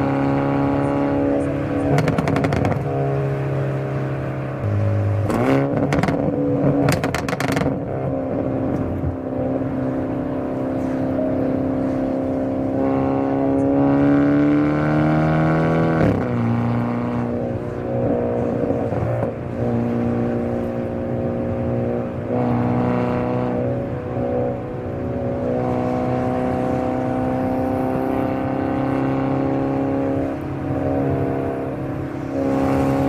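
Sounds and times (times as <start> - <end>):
car engine and exhaust: 0.0 - 33.0.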